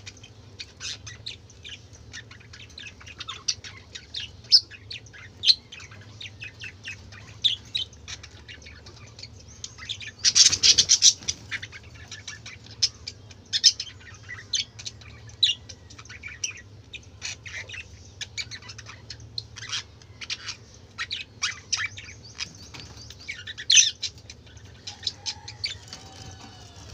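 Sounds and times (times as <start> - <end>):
budgerigars chirping and squawking: 0.0 - 26.9.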